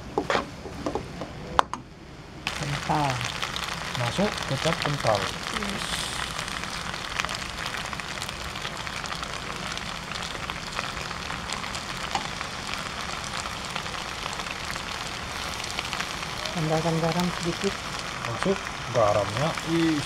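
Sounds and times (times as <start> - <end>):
noodles sizzling in a wok: 2.5 - 20.0.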